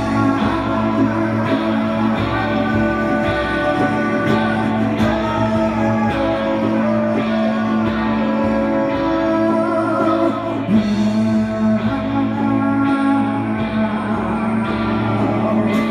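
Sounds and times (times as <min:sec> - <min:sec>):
man singing: 0:00.0 - 0:15.9
second guitar: 0:00.0 - 0:15.9
strummed acoustic guitar: 0:00.0 - 0:15.9.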